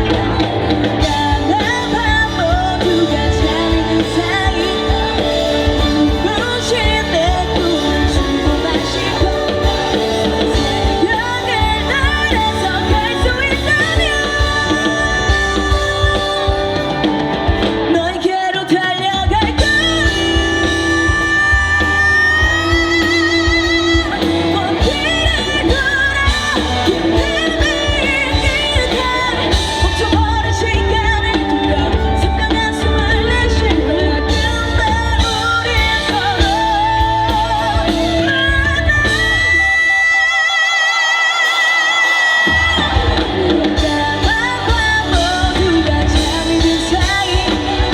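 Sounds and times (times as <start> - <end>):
live pop-rock band: 0.0 - 47.9
woman singing: 0.0 - 47.9.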